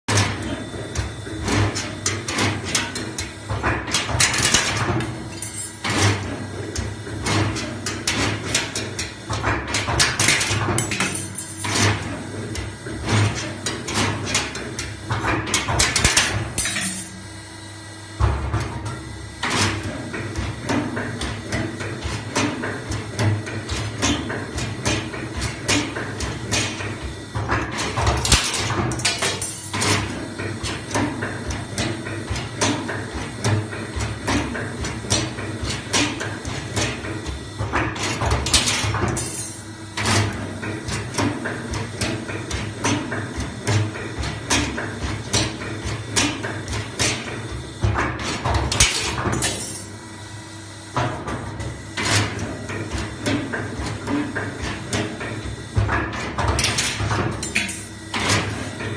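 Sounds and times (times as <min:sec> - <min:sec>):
rapid clatter of clicks and knocks: 0:00.1 - 0:06.4, 0:07.1 - 0:17.0, 0:19.4 - 0:49.8, 0:51.0 - 0:58.9.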